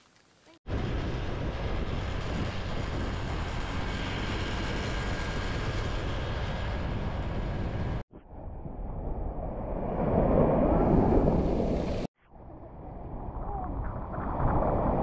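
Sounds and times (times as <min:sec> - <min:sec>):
wind rushing over microphone: 0:00.7 - 0:15.0.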